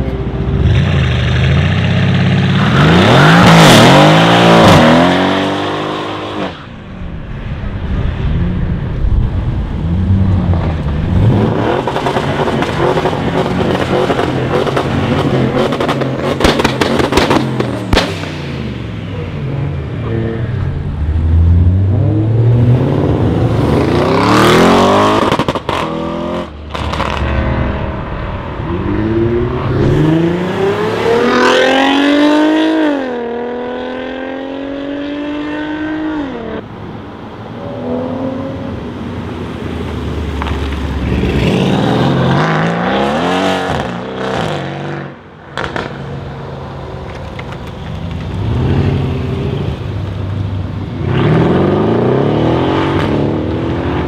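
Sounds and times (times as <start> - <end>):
cars accelerating hard: 0.6 - 6.7, 9.8 - 36.6, 37.6 - 46.0, 50.8 - 54.0.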